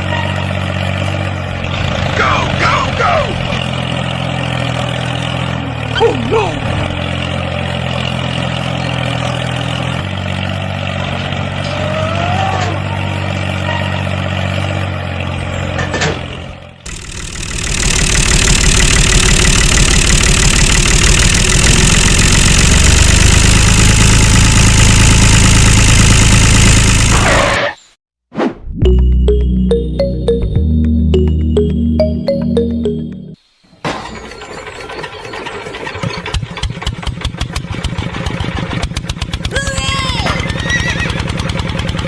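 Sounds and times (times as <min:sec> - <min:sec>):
engine running: 0:00.0 - 0:27.6, 0:28.8 - 0:33.4, 0:34.8 - 0:42.0.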